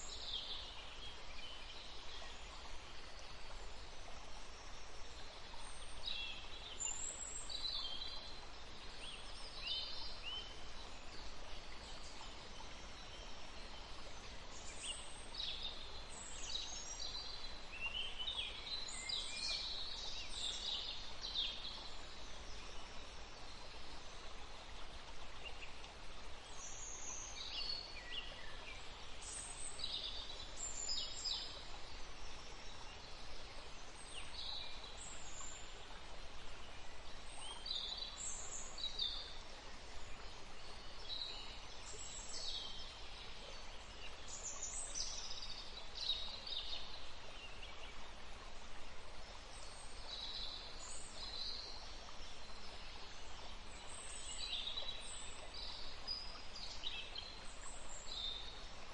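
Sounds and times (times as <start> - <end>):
songbirds chirping: 0.0 - 58.9
stream flowing: 0.0 - 58.9.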